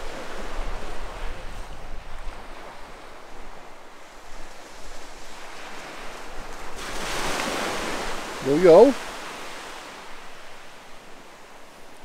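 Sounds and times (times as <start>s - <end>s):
ocean surf washing: 0.0s - 12.0s
wind rumbling on microphone: 0.0s - 12.0s.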